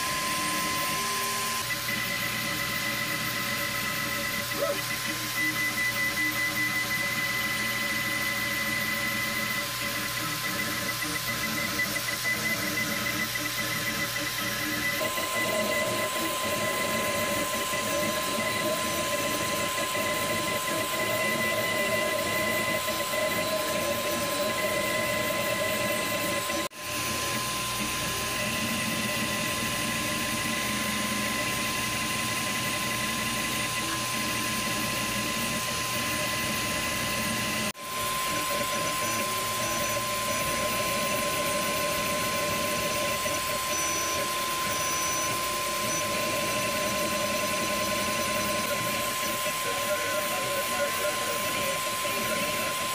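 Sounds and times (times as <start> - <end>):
printer mechanical whir: 0.0 - 52.9
stepper motors whining: 0.0 - 52.9.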